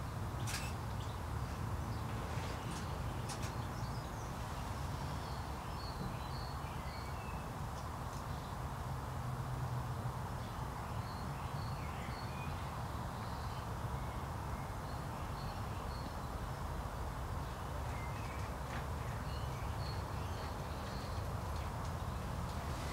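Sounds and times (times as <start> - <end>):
small birds chirping: 0.0 - 8.8, 10.4 - 22.9.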